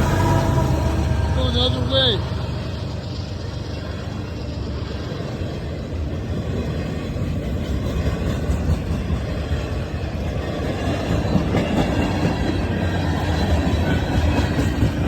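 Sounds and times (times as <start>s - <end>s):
rail clacks: 0.0s - 15.0s
train wheels rumbling on rail: 0.0s - 15.0s.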